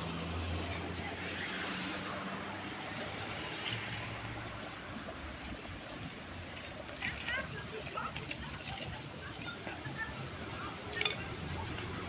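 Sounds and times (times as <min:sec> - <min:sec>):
low engine hum: 0:00.0 - 0:12.0
running water rushing: 0:00.0 - 0:12.0.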